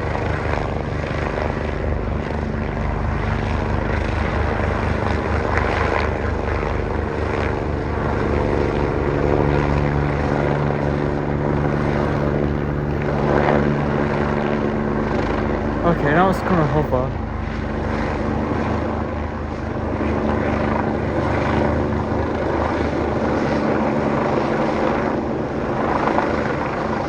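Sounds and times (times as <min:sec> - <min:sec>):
helicopter engine hum: 0:00.0 - 0:27.0
helicopter rotor blades beating: 0:00.0 - 0:27.0.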